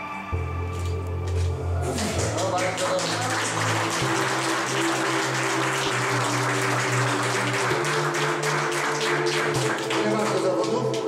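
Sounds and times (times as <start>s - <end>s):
music with sustained chords: 0.0s - 11.0s
audience applauding: 1.4s - 11.0s.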